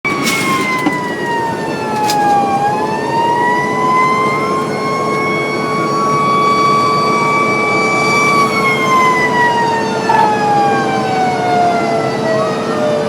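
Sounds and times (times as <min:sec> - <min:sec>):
fire truck siren wailing: 0:00.0 - 0:13.0.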